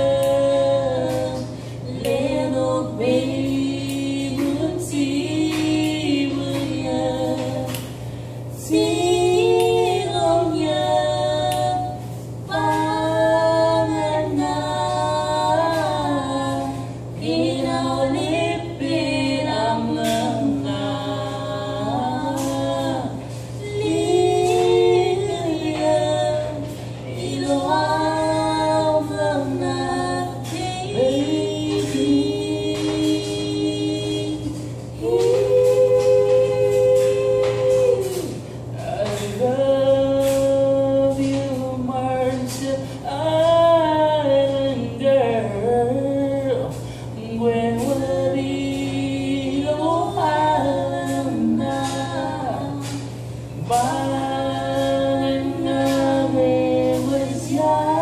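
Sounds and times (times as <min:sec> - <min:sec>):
woman and man singing a cappella: 0:00.0 - 0:58.0.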